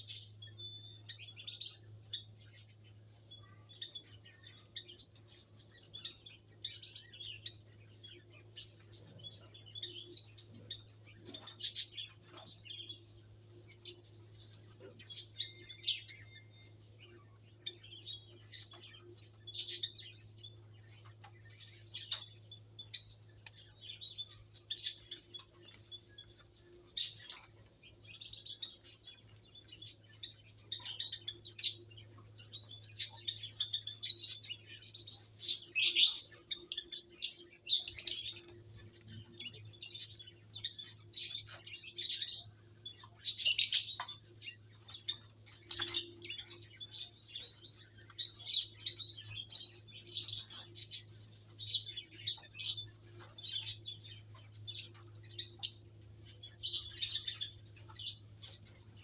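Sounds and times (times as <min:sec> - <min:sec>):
faint low hum: 0:00.0 - 0:59.0
small birds chirping: 0:00.0 - 0:59.0.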